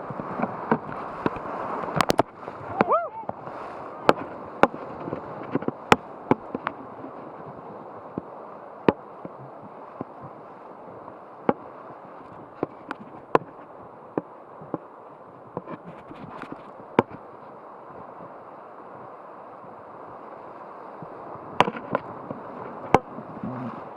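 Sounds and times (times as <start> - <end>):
river water rushing: 0.0 - 23.9.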